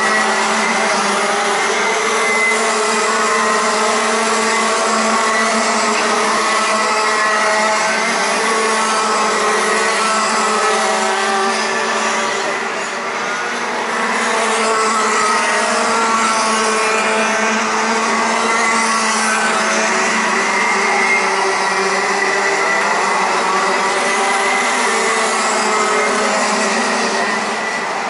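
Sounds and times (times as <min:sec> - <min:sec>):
kart engines racing: 0:00.0 - 0:28.0.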